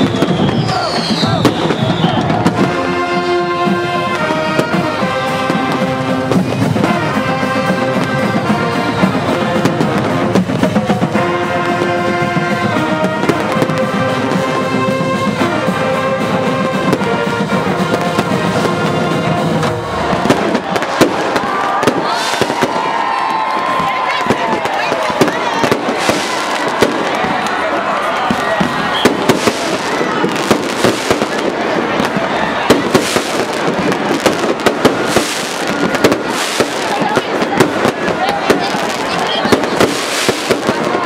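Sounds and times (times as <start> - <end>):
fireworks bangs and crackles: 0.0 - 41.0
fireworks whistling: 0.0 - 41.0
marching band brass chords: 0.0 - 41.0.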